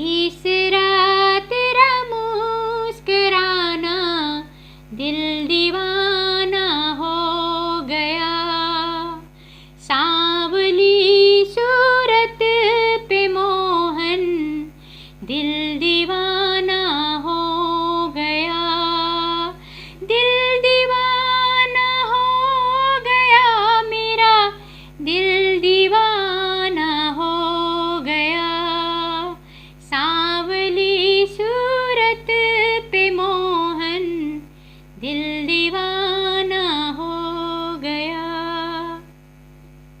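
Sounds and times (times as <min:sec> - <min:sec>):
woman singing: 0:00.0 - 0:39.1.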